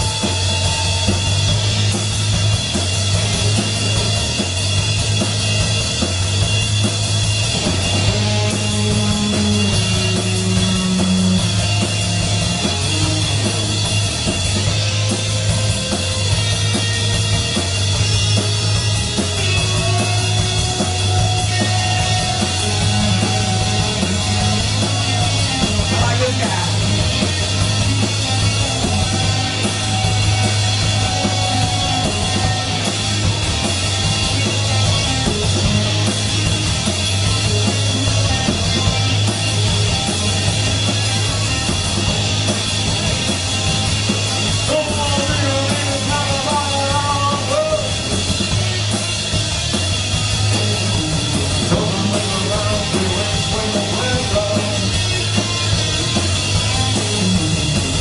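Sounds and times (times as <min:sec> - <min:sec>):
live rock band playing loud: 0:00.0 - 0:58.0.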